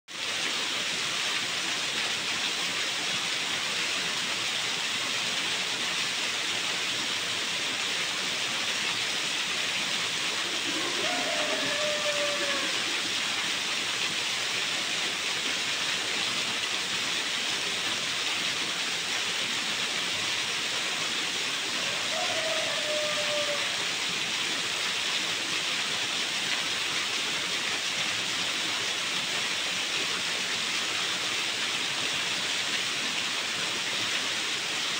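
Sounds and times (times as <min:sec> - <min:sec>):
waterfall splashing into pool: 0:00.1 - 0:34.9.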